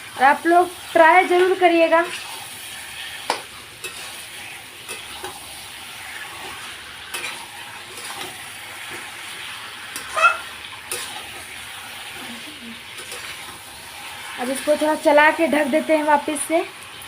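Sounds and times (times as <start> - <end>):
food sizzling in a pan: 0.0 - 17.0
utensil scraping a pan: 1.3 - 15.6.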